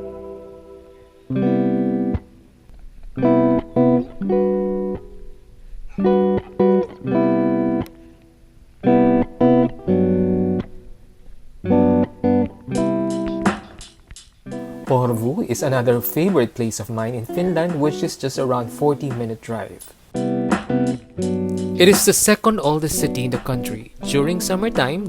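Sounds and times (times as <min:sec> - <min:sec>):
acoustic guitar strumming chords: 0:00.0 - 0:02.6, 0:03.2 - 0:08.2, 0:08.8 - 0:25.0.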